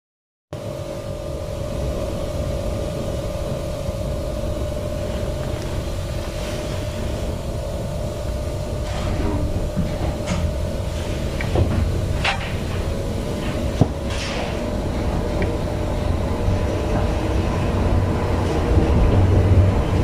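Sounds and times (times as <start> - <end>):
rail car equipment humming: 0.6 - 20.0.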